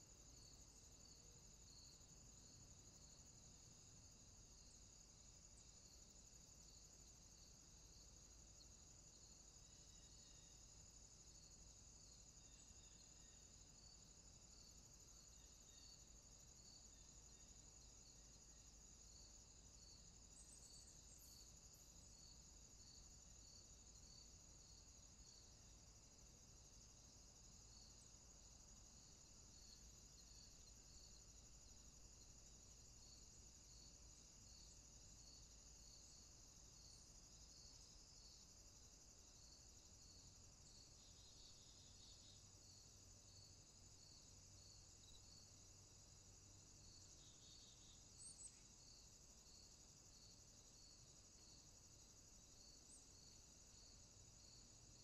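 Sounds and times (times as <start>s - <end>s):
crickets trilling: 0.0s - 55.0s
soft cricket chirp: 0.0s - 55.0s.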